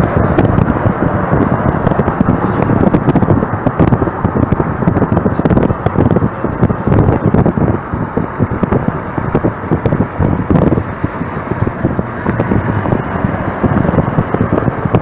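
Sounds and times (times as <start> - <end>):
road noise at highway speed: 0.0 - 15.0
trucks in traffic: 0.0 - 15.0
wind buffeting microphone: 0.0 - 15.0.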